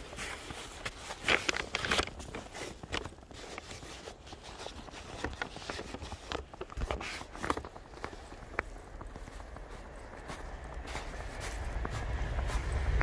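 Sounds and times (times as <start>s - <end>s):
footsteps in snow: 0.0s - 13.0s.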